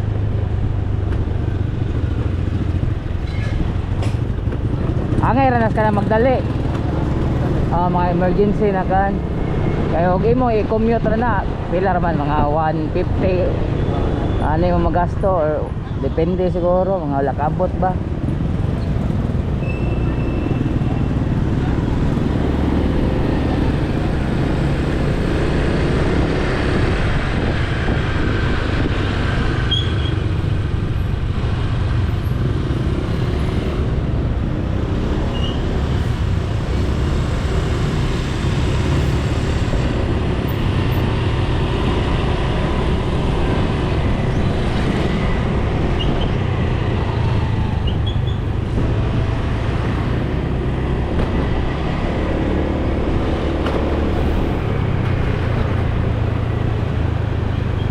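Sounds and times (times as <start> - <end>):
motorcycle engine and road rumble: 0.0 - 57.9.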